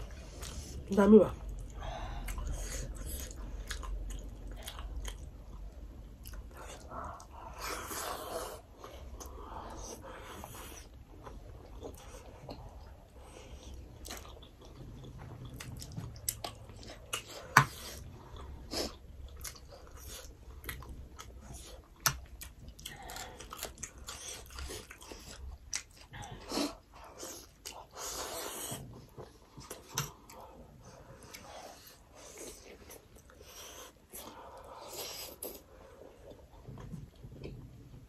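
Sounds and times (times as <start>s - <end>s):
people chewing: 0.0s - 38.0s.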